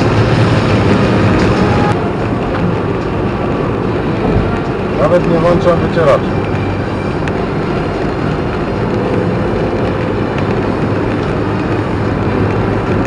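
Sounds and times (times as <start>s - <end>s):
car cabin road and engine noise: 0.0s - 13.0s
tyres on wet road: 0.0s - 13.0s.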